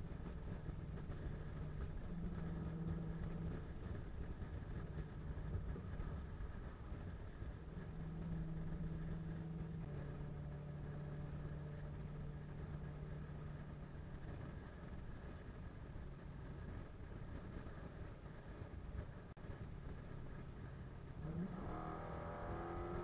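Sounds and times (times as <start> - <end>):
car engine hum: 0.0 - 23.0
road and tyre rumble: 0.0 - 23.0.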